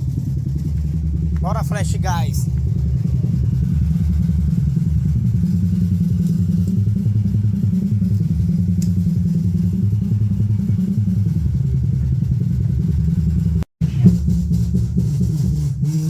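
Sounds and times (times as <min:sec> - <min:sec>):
loud distorted subwoofer bass: 0:00.0 - 0:15.6.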